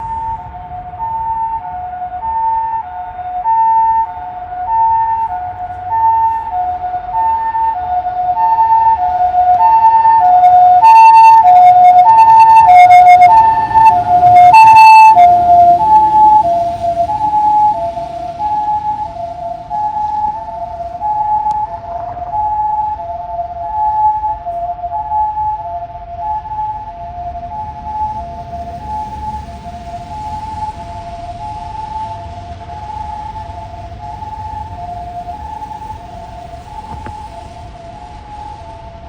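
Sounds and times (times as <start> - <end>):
two-tone ambulance siren: 0.0 - 39.0.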